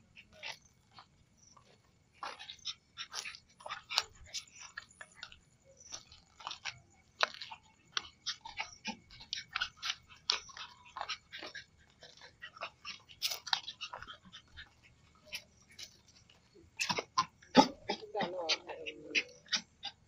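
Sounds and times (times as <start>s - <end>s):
footsteps crunching on dirt: 0.0s - 18.8s.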